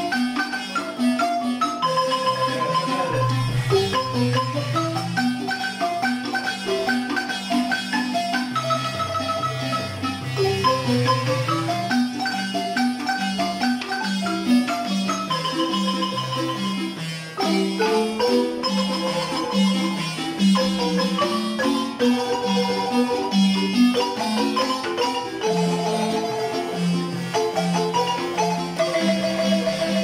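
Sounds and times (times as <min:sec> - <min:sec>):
marimba ensemble playing: 0:00.0 - 0:30.0.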